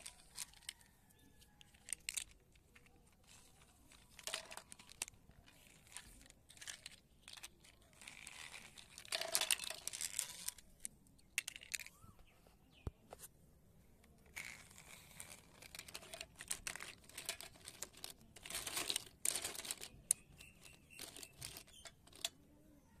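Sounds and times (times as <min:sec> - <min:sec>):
plastic toys scraping and clicking: 0:00.0 - 0:12.3, 0:14.0 - 0:22.4.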